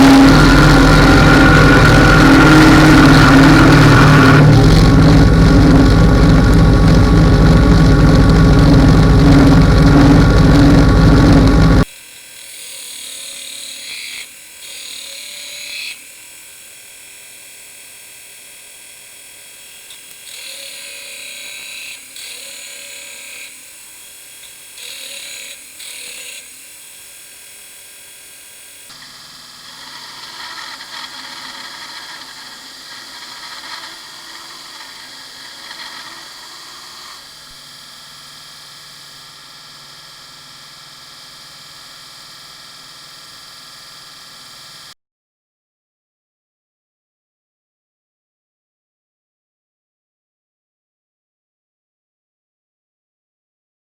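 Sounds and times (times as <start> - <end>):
belt grinder grinding: 0.0 - 45.0
belt grinder motor running: 0.0 - 45.0.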